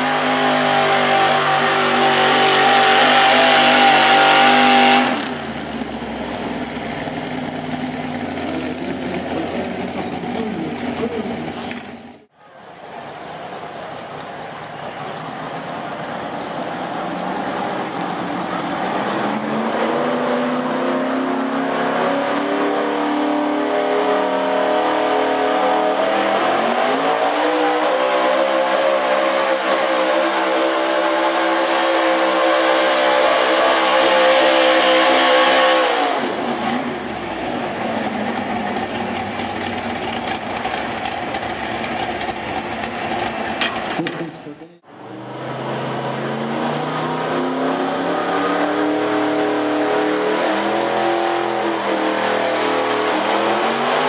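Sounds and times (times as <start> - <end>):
pickup engine revving: 0.0 - 12.3, 15.0 - 54.0.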